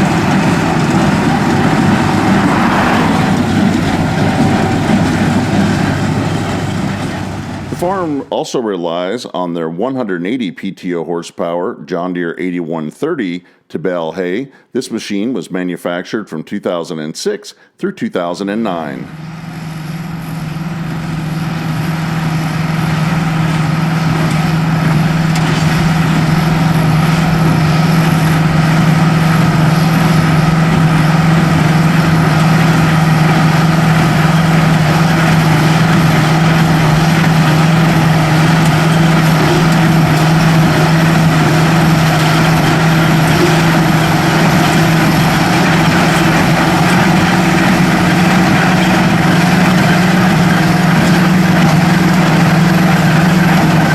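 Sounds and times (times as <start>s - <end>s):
tractor diesel engine droning: 0.0s - 9.1s, 18.7s - 53.9s.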